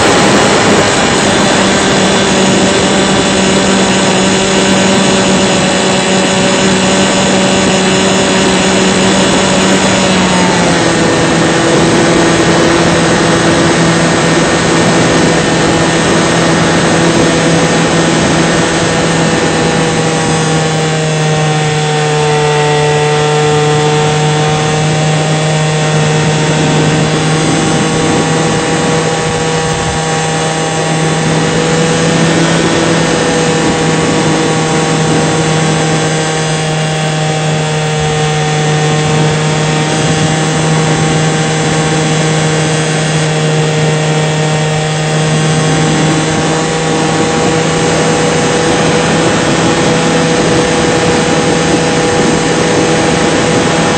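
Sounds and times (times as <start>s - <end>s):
model airplane motor and propeller: 0.0s - 53.9s.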